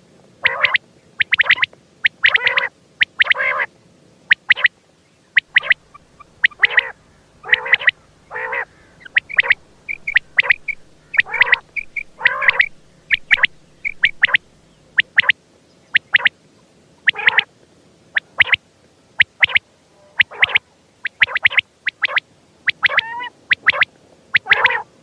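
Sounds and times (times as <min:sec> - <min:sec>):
quail calling: 0:00.4 - 0:03.7, 0:04.3 - 0:04.7, 0:05.4 - 0:15.3, 0:15.9 - 0:16.3, 0:17.0 - 0:17.5, 0:18.2 - 0:18.6, 0:19.2 - 0:19.6, 0:20.2 - 0:25.0.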